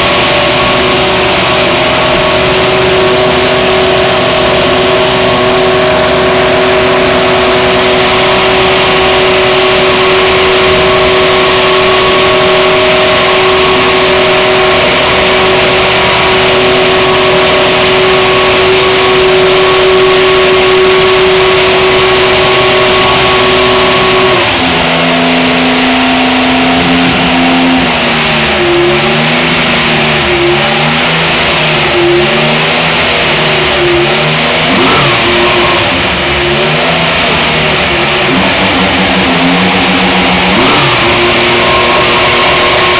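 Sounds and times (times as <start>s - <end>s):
racing engine idling and revving: 0.0s - 42.9s.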